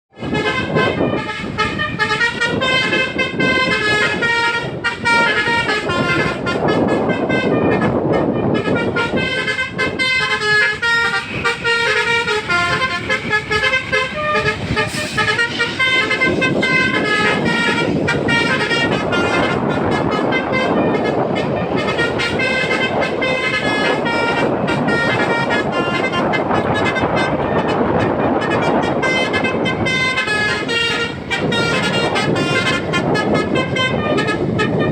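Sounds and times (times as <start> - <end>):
bus musical horn tooting a tune: 0.1 - 34.9
vehicle noise: 0.1 - 34.9.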